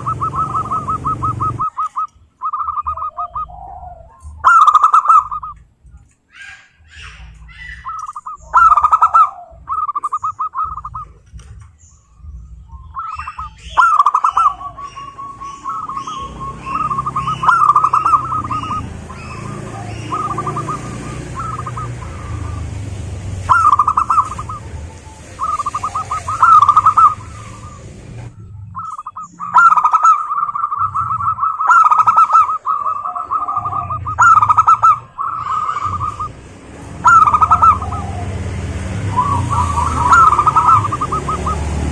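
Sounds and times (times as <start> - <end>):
doves cooing: 0.0 - 5.7, 6.3 - 41.9.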